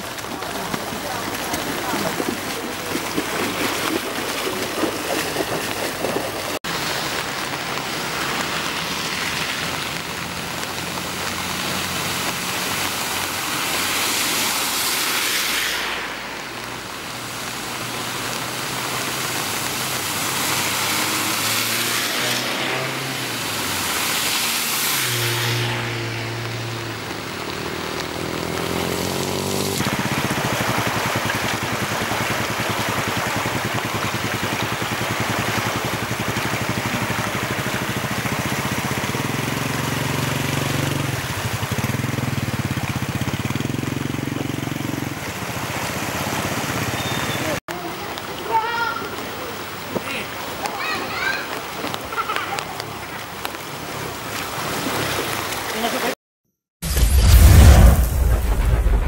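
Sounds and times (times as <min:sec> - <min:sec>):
cars splashing through floodwater: 0:00.0 - 0:56.2
floodwater rushing: 0:00.0 - 0:56.2.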